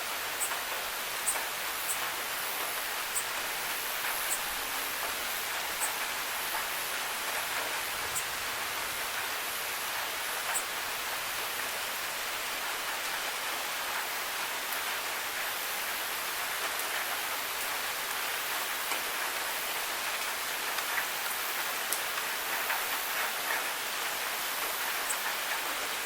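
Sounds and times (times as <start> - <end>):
rain on hard surfaces: 0.0 - 26.0.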